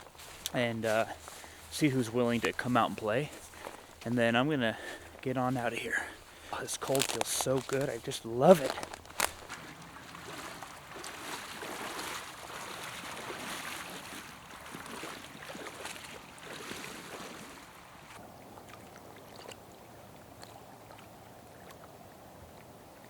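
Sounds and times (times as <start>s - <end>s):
river water splashing: 0.0s - 23.0s.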